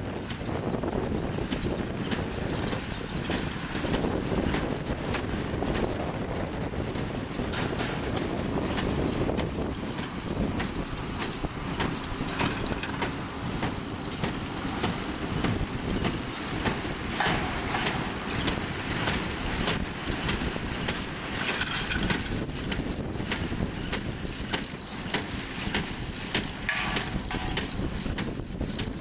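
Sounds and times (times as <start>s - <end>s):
baler mechanical rumble: 0.0s - 29.0s
machinery clanks and clicks: 0.0s - 29.0s.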